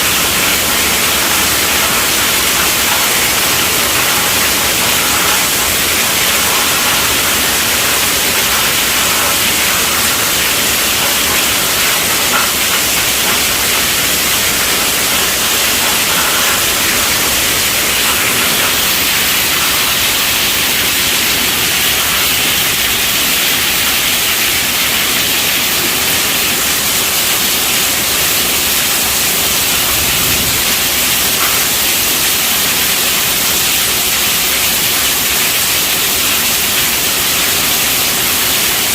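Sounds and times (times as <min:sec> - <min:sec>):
heavy rain on tent roof: 0:00.0 - 0:38.9.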